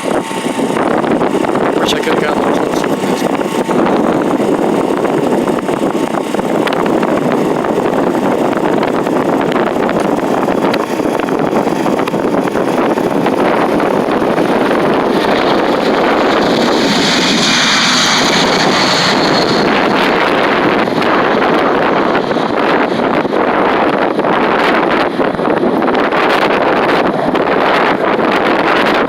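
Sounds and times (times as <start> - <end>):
generator running: 0.0 - 29.0
jet engine whine: 0.0 - 29.0
wind rumble on microphone: 0.0 - 29.0.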